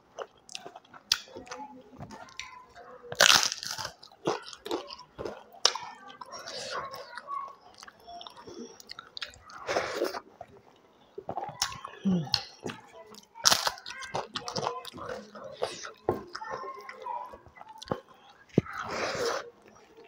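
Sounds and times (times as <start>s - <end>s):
crunchy chewing: 0.0s - 20.0s.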